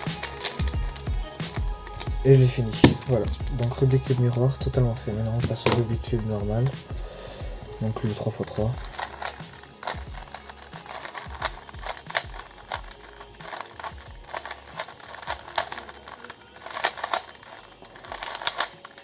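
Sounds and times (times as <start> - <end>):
puzzle cube clicking: 1.8 - 4.4, 5.3 - 6.8, 7.6 - 19.0.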